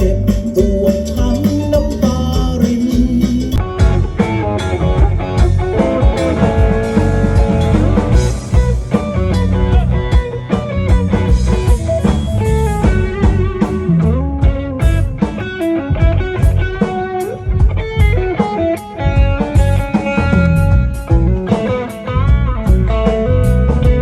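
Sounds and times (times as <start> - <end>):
band music: 0.0 - 24.0
bass: 0.0 - 24.0
drum kit: 0.0 - 24.0
guitar: 0.0 - 24.0.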